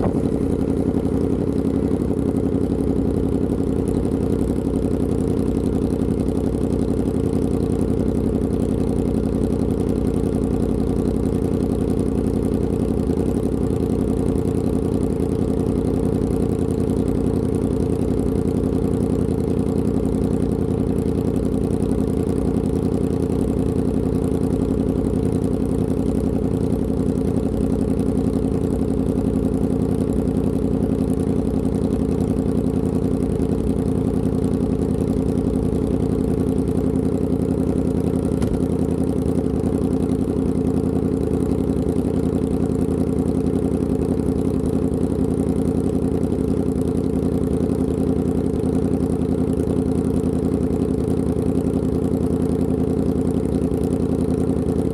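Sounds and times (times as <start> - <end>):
motorcycle engine running steadily: 0.0 - 54.9.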